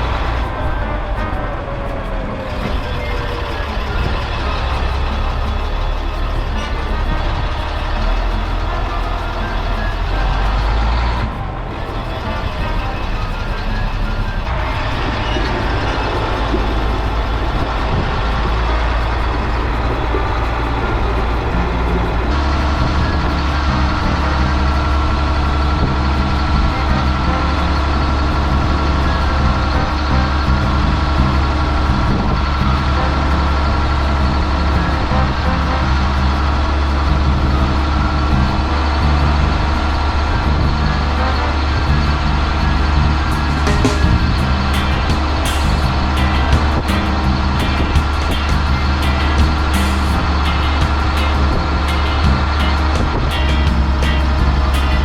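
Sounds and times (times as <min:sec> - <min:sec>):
road noise: 0:00.0 - 0:55.0
truck diesel engine running: 0:00.0 - 0:55.0.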